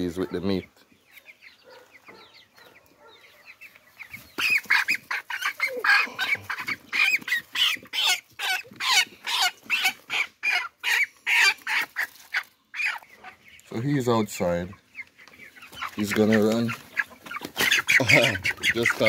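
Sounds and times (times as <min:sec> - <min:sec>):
chickens squawking: 0:00.0 - 0:19.0
chicks peeping: 0:00.0 - 0:19.0.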